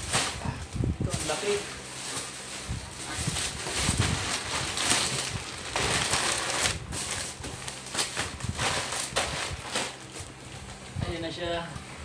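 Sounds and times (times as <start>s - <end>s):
plastic packaging crinkling and tearing: 0.0s - 10.8s.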